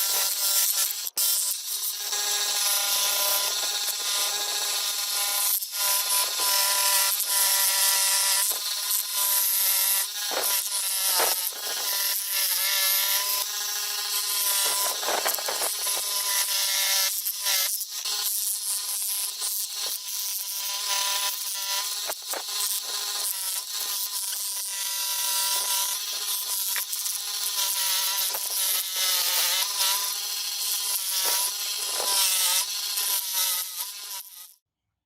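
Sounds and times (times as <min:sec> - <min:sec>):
power tool scraping metal: 0:00.0 - 0:34.6.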